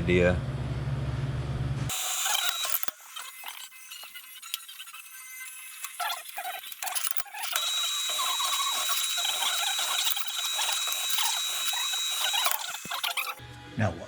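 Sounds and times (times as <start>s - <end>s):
clicks: 1.9s - 13.4s
drill grinding through steel: 1.9s - 13.4s.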